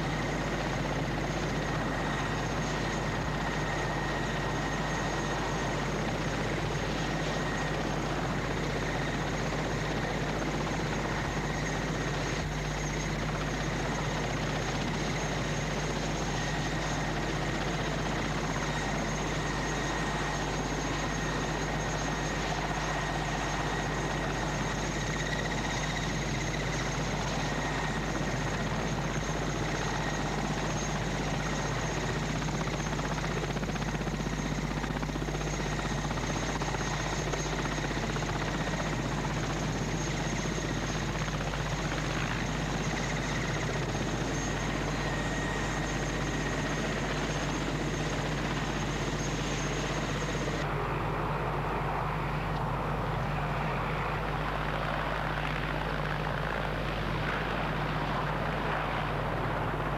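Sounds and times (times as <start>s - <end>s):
helicopter running with whine: 0.0s - 59.9s.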